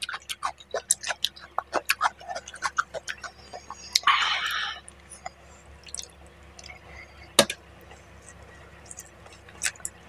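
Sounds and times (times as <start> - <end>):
wet eating sounds: 0.0 - 10.0.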